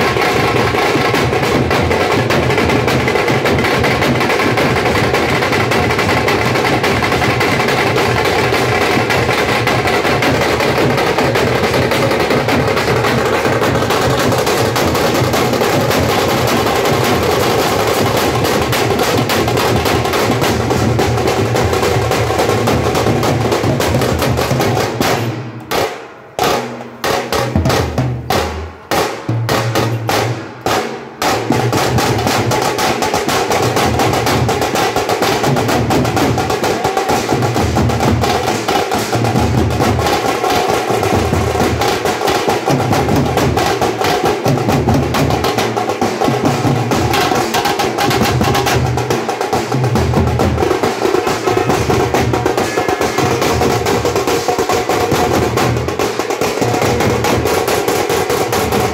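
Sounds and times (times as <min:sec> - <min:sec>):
drum band playing fast rhythm: 0:00.0 - 0:58.9.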